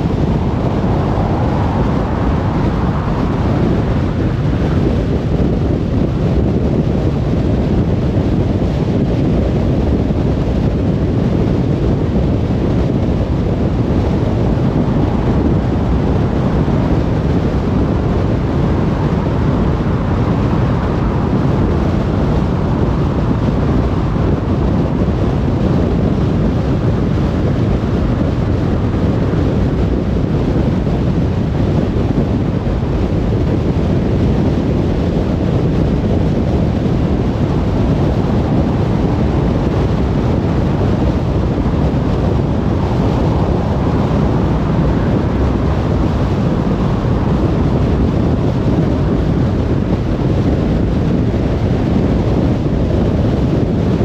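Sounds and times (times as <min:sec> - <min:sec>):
tyre and wind noise: 0:00.0 - 0:54.0.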